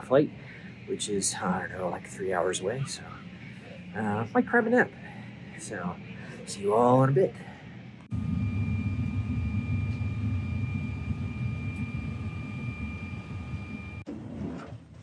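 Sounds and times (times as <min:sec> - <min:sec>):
airliner cabin rumble with whine: 0:00.0 - 0:15.0.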